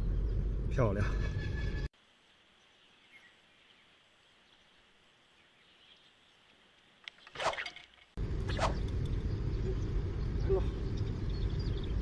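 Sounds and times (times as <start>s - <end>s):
faint outdoor hiss: 1.9s - 12.0s.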